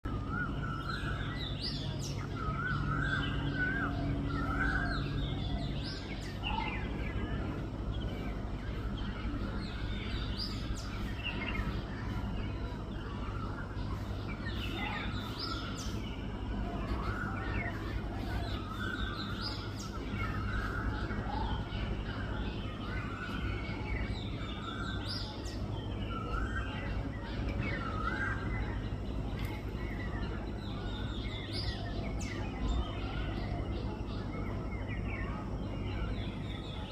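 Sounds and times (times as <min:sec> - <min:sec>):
birds calling: 0:00.0 - 0:36.9
steady low hum: 0:00.0 - 0:36.9.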